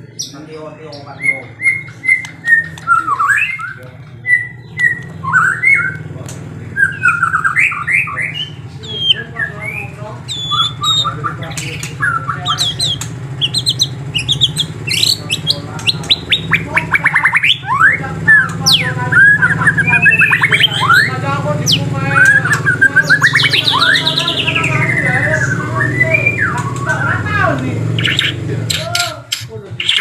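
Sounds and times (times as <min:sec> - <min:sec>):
songbirds chirping and singing: 0:00.0 - 0:30.0
steady low hum: 0:00.0 - 0:30.0.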